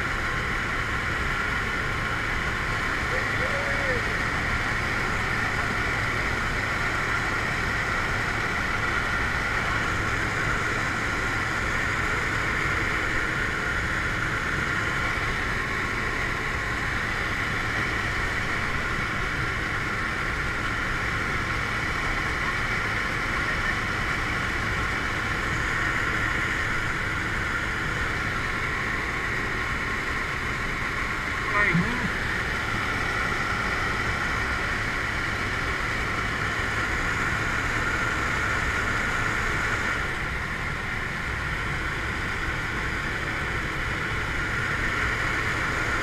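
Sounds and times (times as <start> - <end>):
plane engine and propeller drone: 0.0 - 46.0.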